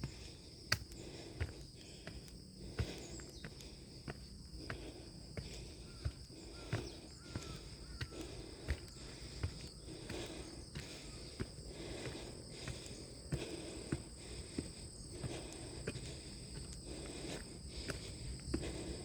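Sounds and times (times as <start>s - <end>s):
footsteps on trail: 0.0s - 19.0s
insects droning: 0.0s - 19.0s
labored breathing: 0.0s - 19.0s.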